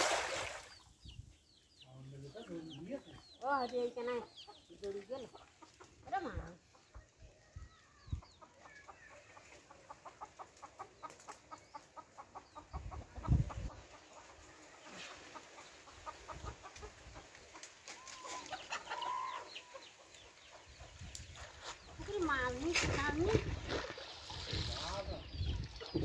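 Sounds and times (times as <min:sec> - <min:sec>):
chickens clucking: 0:02.2 - 0:26.0.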